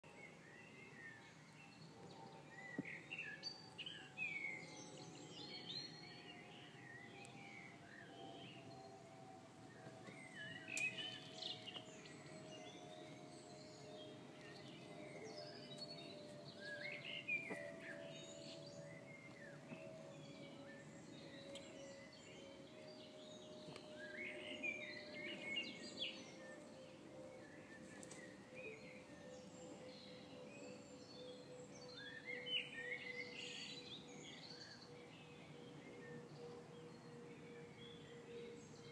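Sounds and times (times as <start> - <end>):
faint steady drone: 0.1 - 38.9
small birds chirping: 0.1 - 38.9.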